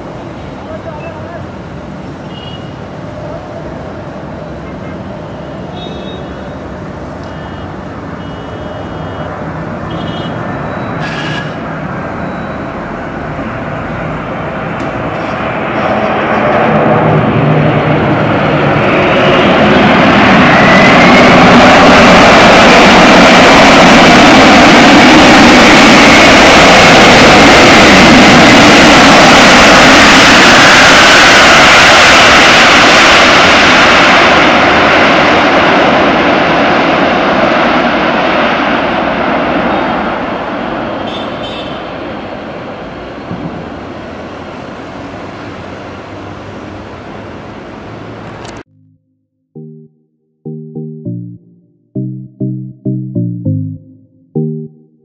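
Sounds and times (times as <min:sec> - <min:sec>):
jet engines rumbling with whine: 0:00.0 - 0:48.8.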